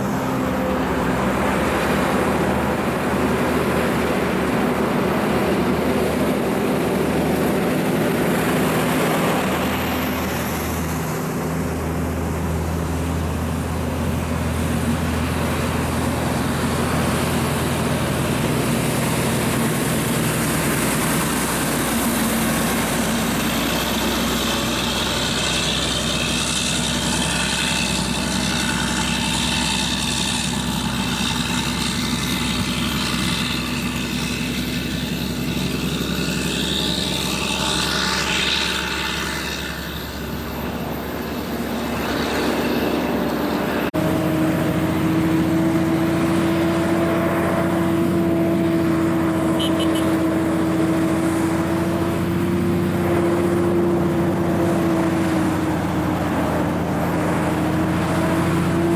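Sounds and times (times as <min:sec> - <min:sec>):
truck engine droning: 0:00.0 - 0:58.9
truck pulling past under load: 0:00.0 - 0:58.9.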